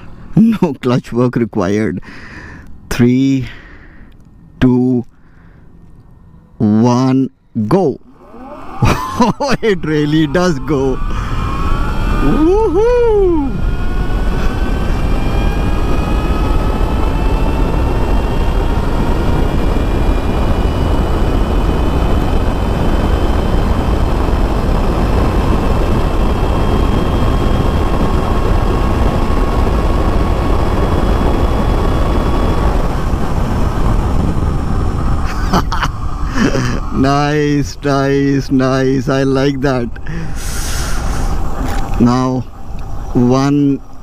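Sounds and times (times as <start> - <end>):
electric motor whine: 2.6 - 44.0
heavy wind rush on microphone: 8.2 - 44.0.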